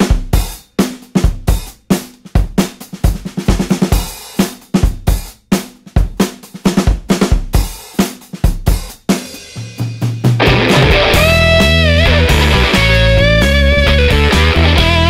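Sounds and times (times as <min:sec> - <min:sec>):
drum kit playing a steady beat: 0:00.0 - 0:15.0.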